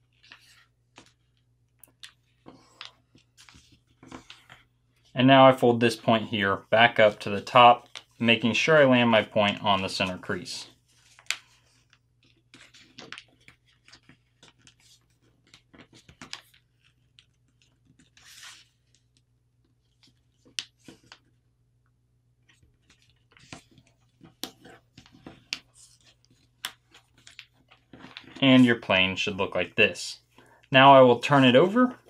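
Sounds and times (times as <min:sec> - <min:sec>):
paper folding and rustling: 0:00.0 - 0:05.1, 0:06.8 - 0:21.4, 0:22.4 - 0:29.7.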